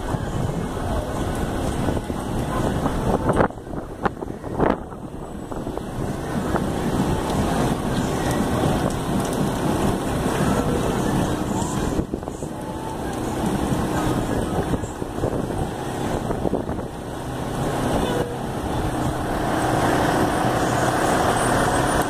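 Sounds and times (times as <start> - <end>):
diesel engine running: 0.0 - 22.0
wind rumbling on microphone: 0.0 - 22.0.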